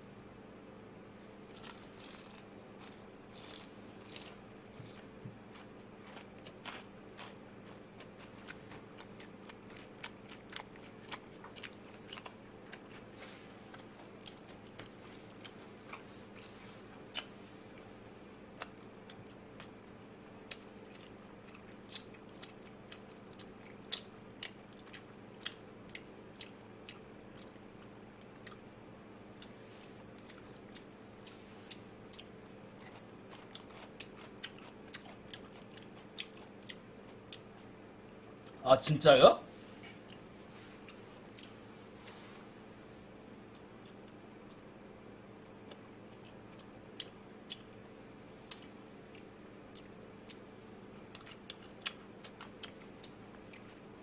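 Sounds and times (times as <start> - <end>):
faint steady hum: 0.0 - 54.0
crunchy chewing: 1.2 - 38.6, 39.6 - 54.0.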